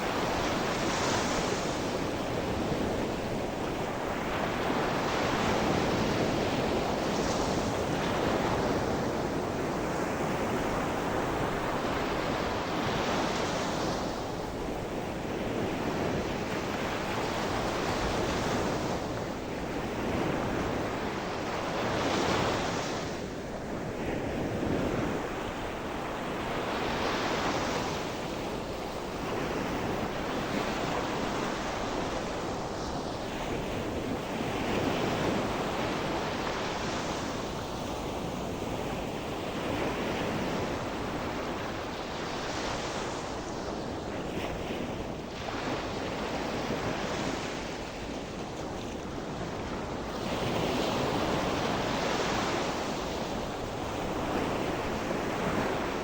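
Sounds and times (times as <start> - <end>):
waves breaking on shore: 0.0 - 56.0
wind on microphone: 0.0 - 56.0.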